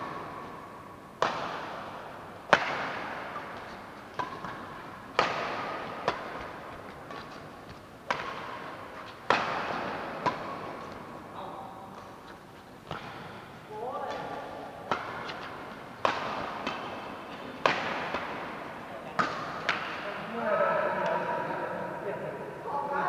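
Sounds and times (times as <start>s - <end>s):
rackets striking shuttlecock: 0.0s - 20.2s.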